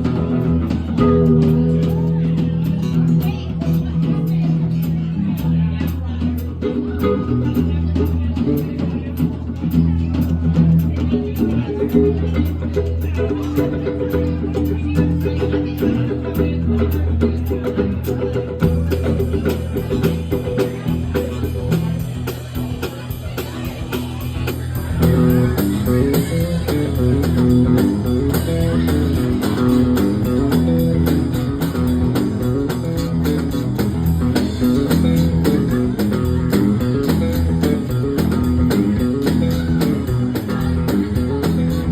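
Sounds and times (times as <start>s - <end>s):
live band playing guitar music: 0.0s - 41.9s.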